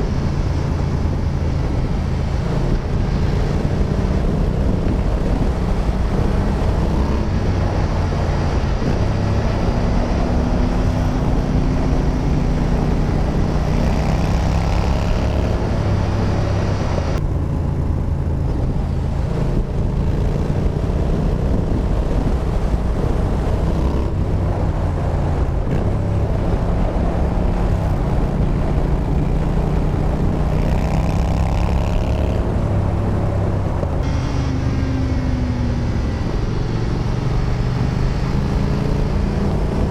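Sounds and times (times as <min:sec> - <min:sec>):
motorcycle engine riding: 0:00.0 - 0:39.9
wind noise: 0:00.0 - 0:39.9.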